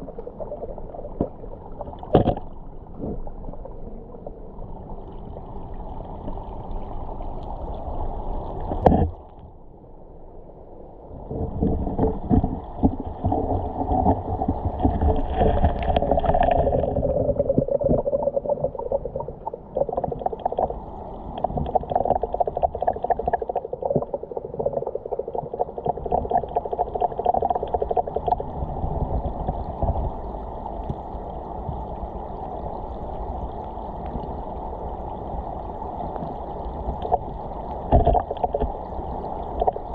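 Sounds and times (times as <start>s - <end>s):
river water gurgling underwater: 0.0s - 9.4s, 11.2s - 39.9s.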